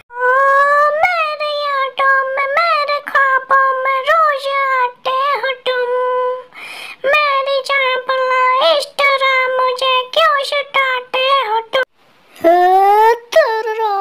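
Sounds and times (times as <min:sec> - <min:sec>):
high-pitched voice singing alone: 0:00.0 - 0:14.0.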